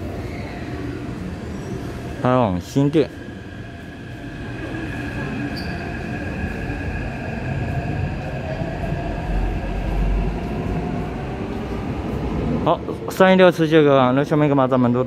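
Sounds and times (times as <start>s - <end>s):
wheels rumbling on rail: 0.0s - 14.6s
metro train whine: 0.0s - 15.0s.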